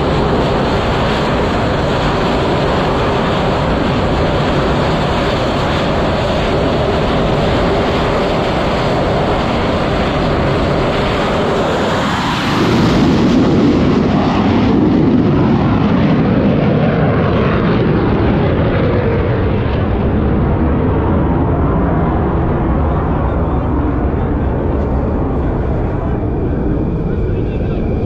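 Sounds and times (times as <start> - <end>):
jet engines at high power: 0.0 - 28.0.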